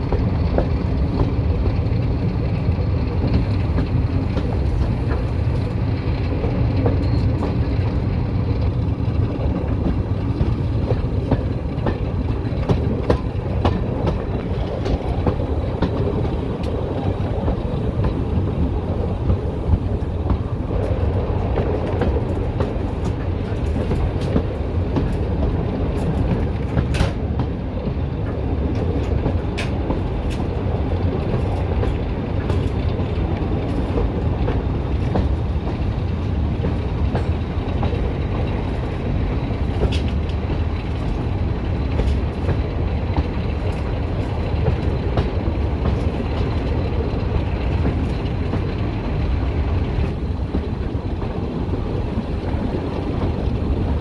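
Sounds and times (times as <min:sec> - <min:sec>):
diesel train rumbling: 0:00.0 - 0:54.0
train wheels clicking over track: 0:00.0 - 0:54.0.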